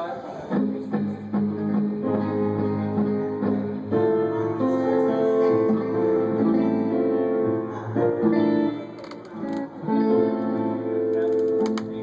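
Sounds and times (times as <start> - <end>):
guitar strumming chords: 0.5 - 12.0.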